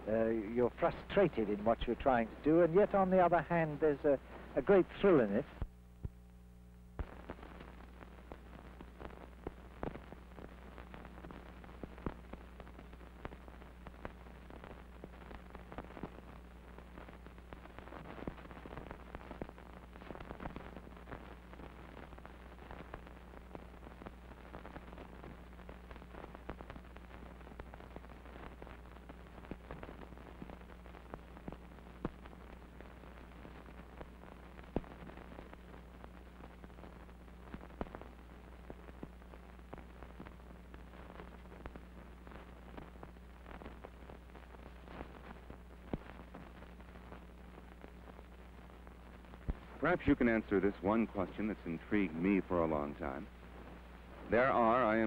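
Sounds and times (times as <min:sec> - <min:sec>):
crackles and pops: 0:00.0 - 0:55.0
film hiss: 0:00.0 - 0:55.0.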